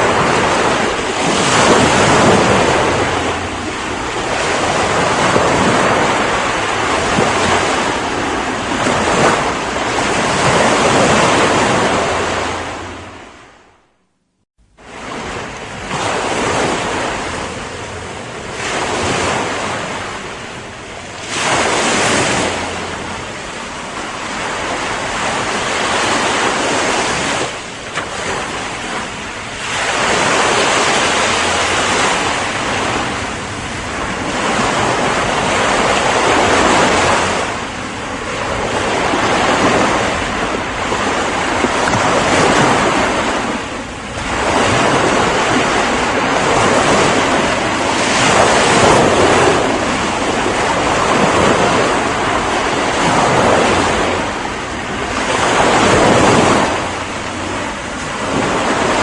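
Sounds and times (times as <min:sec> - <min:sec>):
ocean waves breaking: 0:00.0 - 0:13.9, 0:14.6 - 0:59.0.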